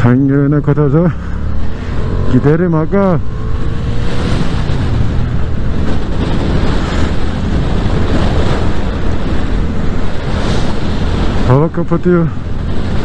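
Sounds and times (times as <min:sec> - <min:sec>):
motorcycle engine running low: 0:00.0 - 0:11.6
wind buffeting microphone: 0:01.0 - 0:13.0.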